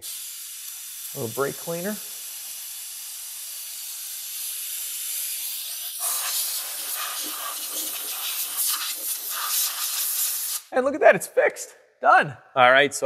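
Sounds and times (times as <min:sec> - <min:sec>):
aerosol can spraying: 0:00.0 - 0:10.7.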